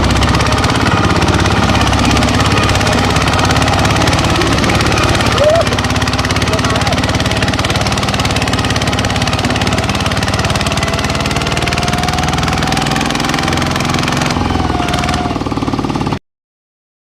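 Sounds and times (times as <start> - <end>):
small tractor engine running: 0.0 - 16.2.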